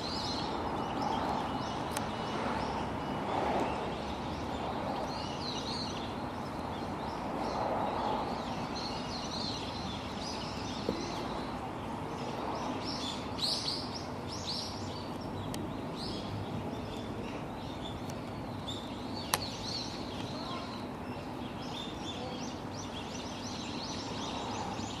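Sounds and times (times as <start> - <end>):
outdoor background hiss: 0.0 - 25.0
small birds chirping: 0.0 - 25.0.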